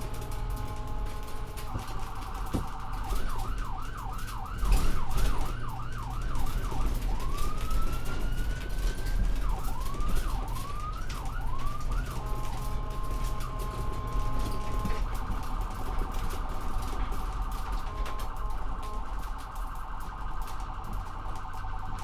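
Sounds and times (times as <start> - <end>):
ambulance siren: 0.0 - 22.0.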